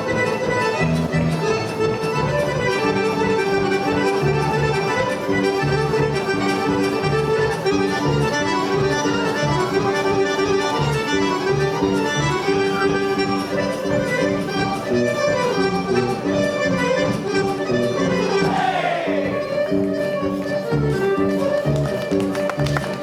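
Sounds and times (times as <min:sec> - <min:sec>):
accordion melody: 0:00.0 - 0:23.0.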